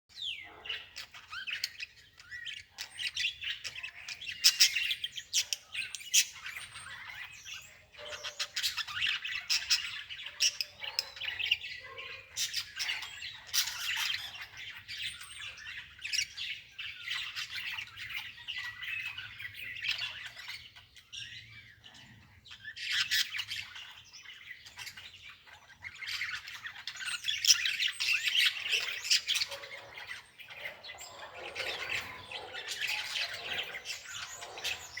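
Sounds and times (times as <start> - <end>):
small birds chirping and squawking: 0.1 - 35.0.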